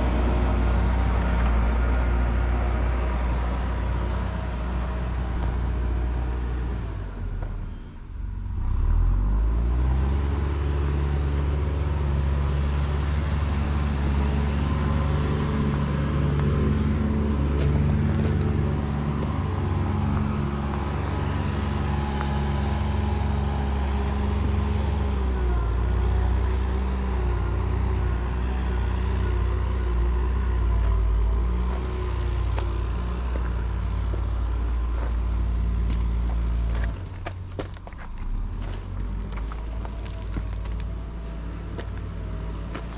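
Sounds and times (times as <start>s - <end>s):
road noise: 0.0s - 42.9s
vehicle engine running: 0.0s - 42.9s.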